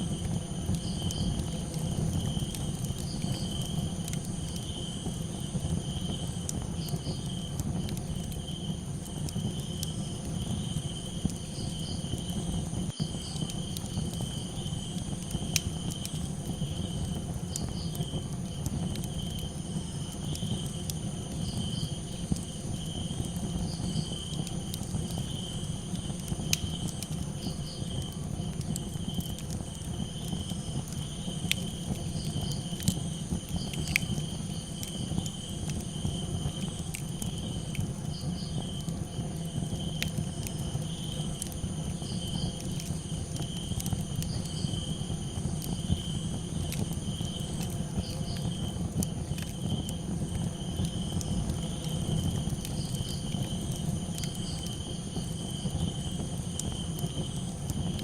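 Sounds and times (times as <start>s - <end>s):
campfire crackling: 0.0s - 58.0s
crickets chirping: 0.0s - 58.0s.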